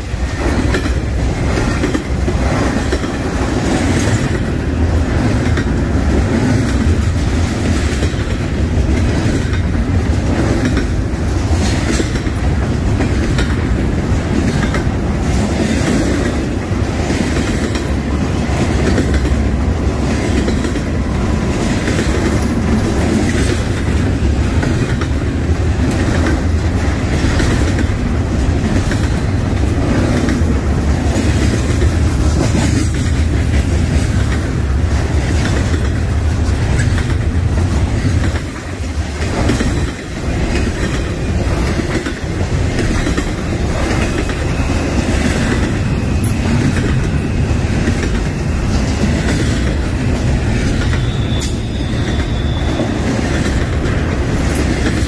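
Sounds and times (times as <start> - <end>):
freight train cars rolling past: 0.0 - 55.0.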